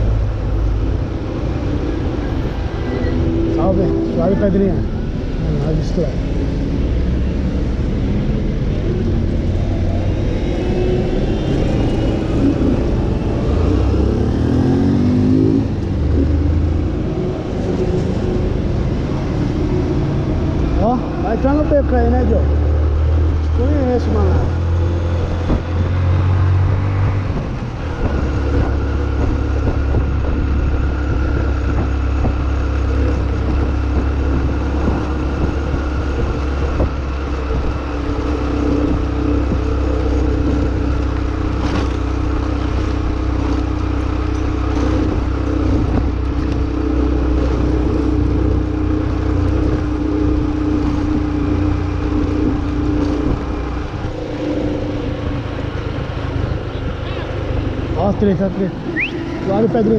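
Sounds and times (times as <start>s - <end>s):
road rumble: 0.0s - 59.9s
vehicle engine drone: 0.0s - 59.9s.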